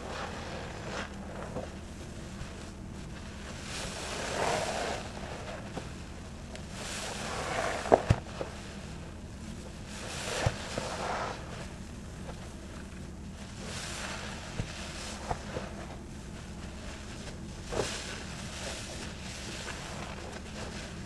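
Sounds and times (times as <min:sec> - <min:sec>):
foam sponge squelching: 0:00.0 - 0:21.0.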